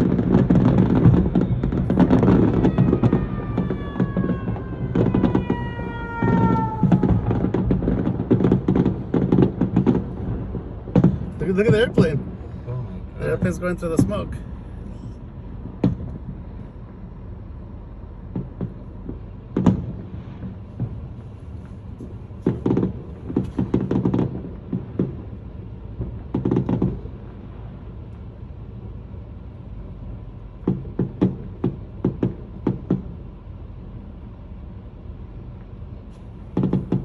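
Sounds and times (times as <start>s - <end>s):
fireworks bangs and pops: 0.0s - 12.5s, 13.2s - 27.7s, 30.5s - 33.3s, 35.6s - 37.0s
low rumble: 0.0s - 37.0s.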